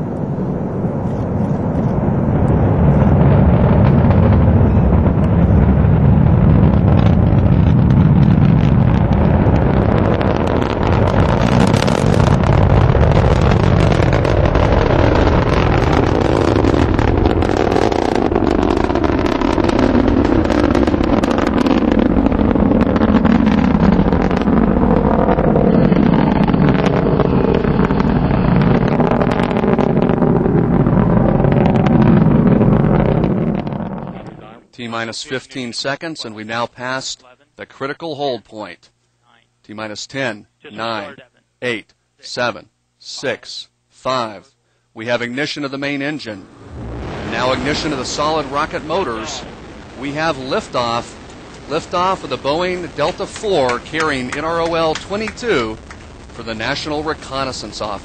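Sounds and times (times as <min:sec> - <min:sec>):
rocket engine roar: 0:00.0 - 0:36.2, 0:45.8 - 0:58.0.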